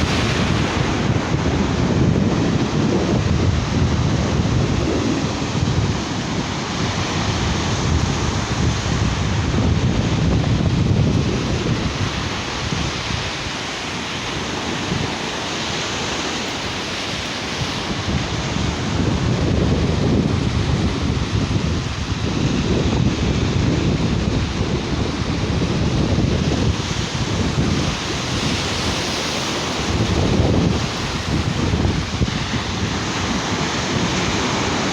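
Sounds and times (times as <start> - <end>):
sea surf washing on beach: 0.0 - 34.9
wind buffeting microphone: 0.0 - 34.9.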